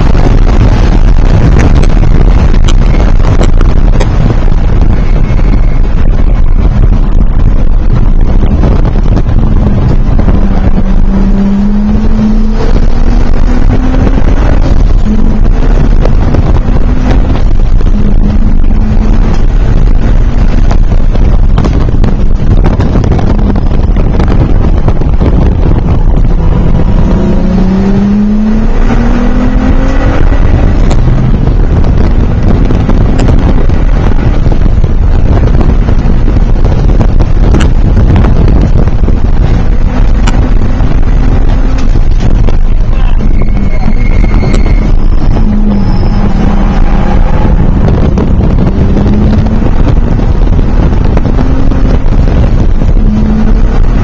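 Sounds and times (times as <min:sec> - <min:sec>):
car engine pulling hard: 0:00.0 - 0:54.0
road and wind noise: 0:00.0 - 0:54.0.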